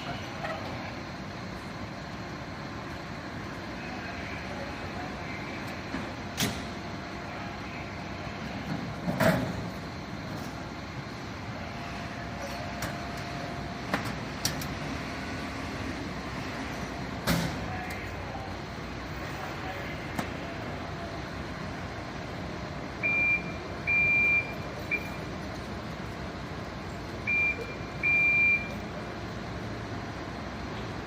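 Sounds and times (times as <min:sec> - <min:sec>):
fire truck engine idling: 0:00.0 - 0:31.0.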